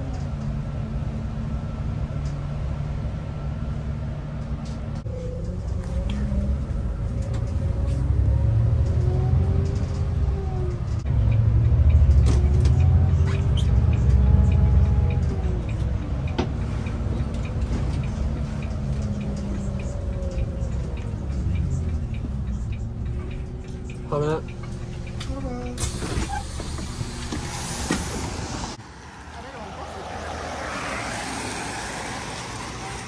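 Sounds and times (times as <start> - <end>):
bus drivetrain rumble and whine: 0.0 - 33.0.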